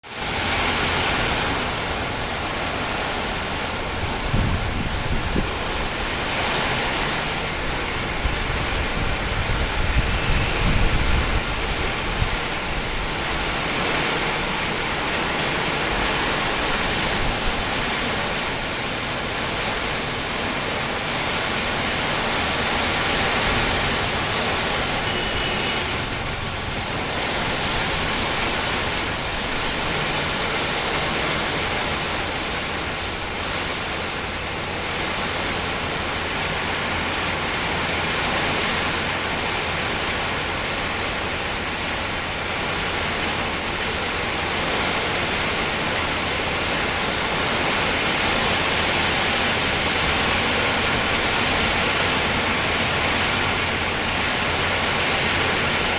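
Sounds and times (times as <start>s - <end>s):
heavy rain on a tin roof: 0.0s - 55.9s.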